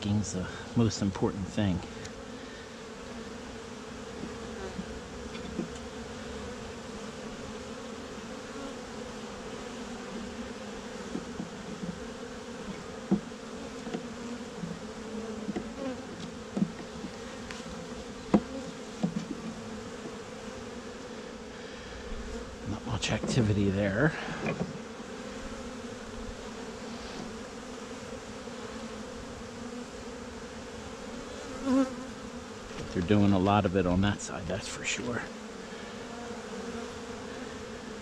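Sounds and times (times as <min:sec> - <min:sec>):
bees buzzing: 0:00.0 - 0:38.0.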